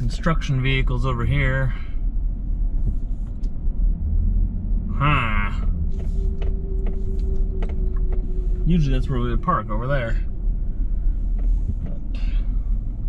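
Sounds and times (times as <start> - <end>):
engine and road noise: 0.0 - 13.0.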